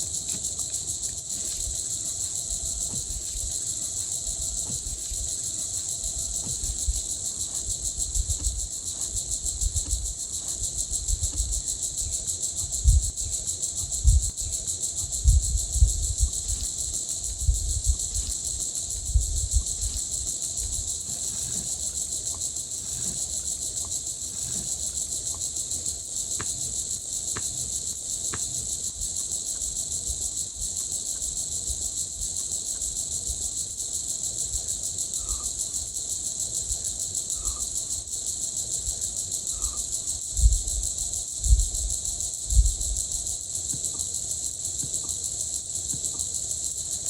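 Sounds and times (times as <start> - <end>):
crickets trilling: 0.0 - 47.0.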